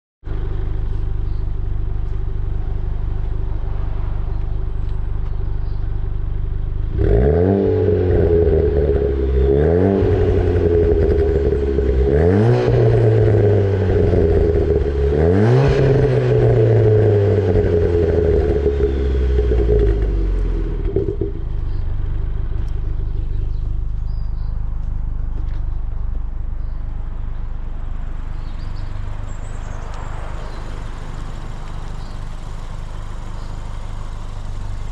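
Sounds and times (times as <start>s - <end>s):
car engine idling: 0.2s - 34.9s
car engine revving: 0.4s - 25.7s, 26.6s - 34.9s.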